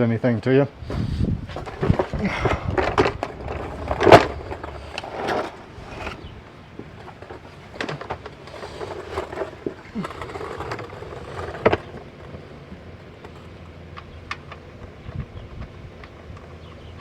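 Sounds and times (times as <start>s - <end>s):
knocks and clatter: 0.9s - 17.0s.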